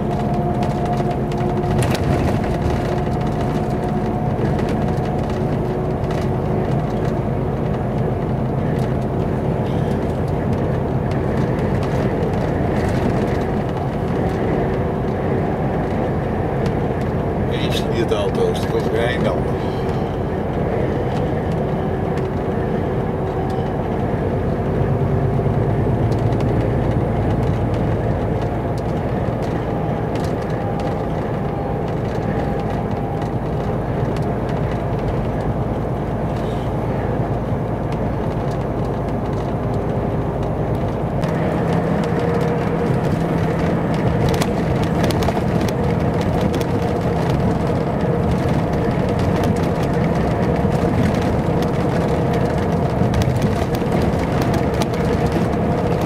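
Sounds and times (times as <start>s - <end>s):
truck engine drone: 0.0s - 56.0s
tyre and road noise: 0.0s - 56.0s.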